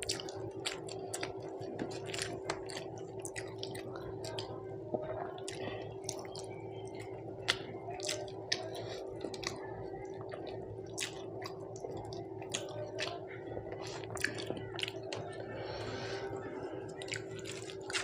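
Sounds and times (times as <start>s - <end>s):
low background hum: 0.0s - 18.0s
person chewing wetly: 0.0s - 18.0s.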